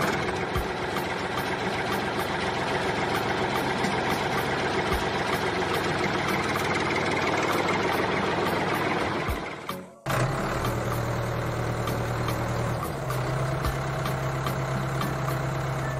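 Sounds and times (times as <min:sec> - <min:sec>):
tractor engine idling: 0:00.0 - 0:15.9.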